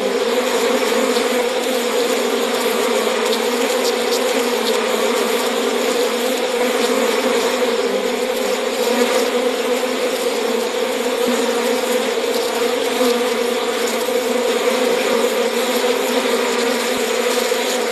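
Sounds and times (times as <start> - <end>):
bees buzzing: 0.0 - 17.9.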